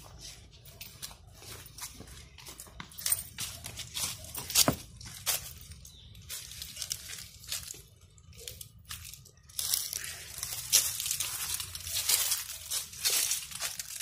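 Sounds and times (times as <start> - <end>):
footsteps on dry leaves: 0.0 - 14.0.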